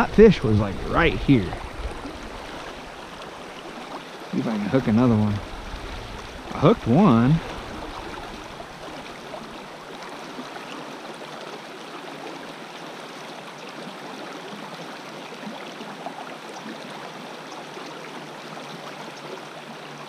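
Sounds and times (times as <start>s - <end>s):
creek flowing over rocks: 0.0s - 20.0s.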